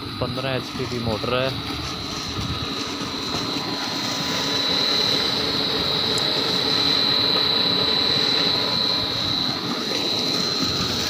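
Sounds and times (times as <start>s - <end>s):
electric pump motor whining: 0.0s - 11.0s.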